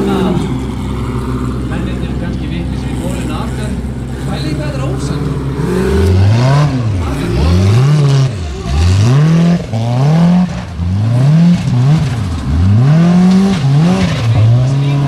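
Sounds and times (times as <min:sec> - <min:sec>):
buggy engine revving: 0:00.0 - 0:15.0
wheels digging into dirt: 0:00.0 - 0:15.0.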